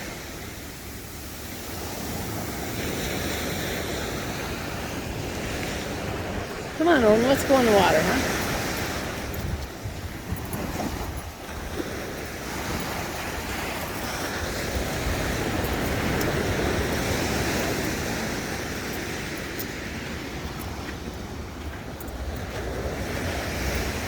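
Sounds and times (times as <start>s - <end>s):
surf washing up the beach: 0.0s - 24.0s
wind rumbling on microphone: 0.0s - 24.0s.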